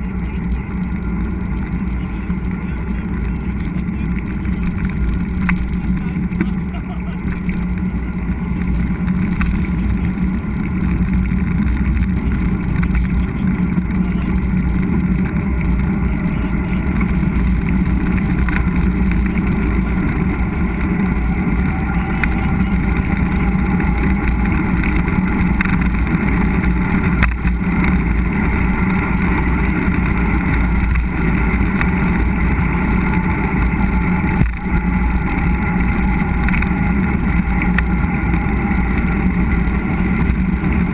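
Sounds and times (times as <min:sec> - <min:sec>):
bike riding noise: 0:00.0 - 0:40.9
rumbling wind: 0:00.0 - 0:40.9.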